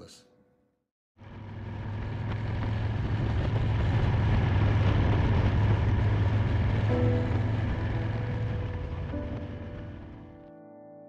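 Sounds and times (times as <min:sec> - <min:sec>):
motorcycle engine running: 0:01.2 - 0:10.4
wind and road noise: 0:01.2 - 0:10.5.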